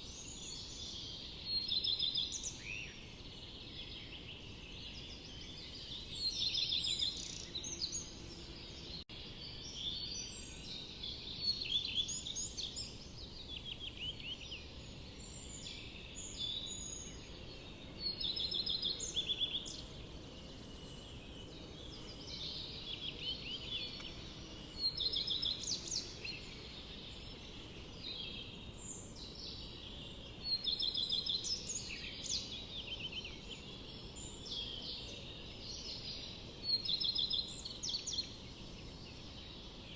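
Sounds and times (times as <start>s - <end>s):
bird song phrase: 0.0s - 39.9s
low background hiss: 0.0s - 39.9s
quiet bird chirps: 0.0s - 39.9s.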